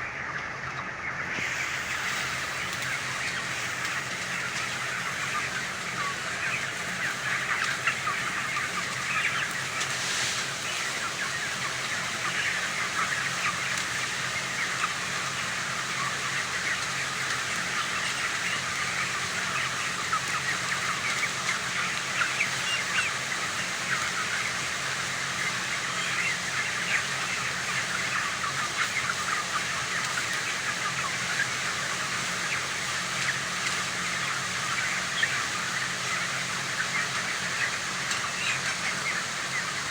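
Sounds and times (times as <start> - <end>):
chicks peeping and chirping: 0.0 - 39.9.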